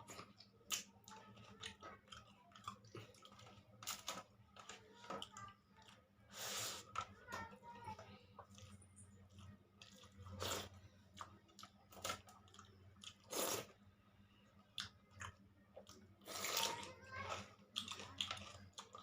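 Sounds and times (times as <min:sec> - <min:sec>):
person chewing: 0:00.0 - 0:07.1, 0:08.4 - 0:13.8, 0:14.6 - 0:19.0
low steady hum: 0:00.0 - 0:19.0.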